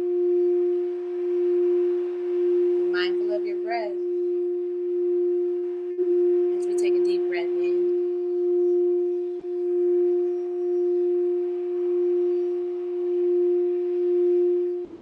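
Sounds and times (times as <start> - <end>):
sustained meditation tone: 0.0 - 15.0.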